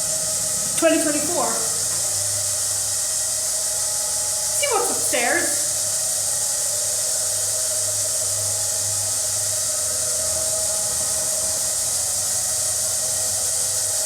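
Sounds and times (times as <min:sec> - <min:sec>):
faint steady whine: 0:00.0 - 0:14.0
steady hiss: 0:00.0 - 0:14.0.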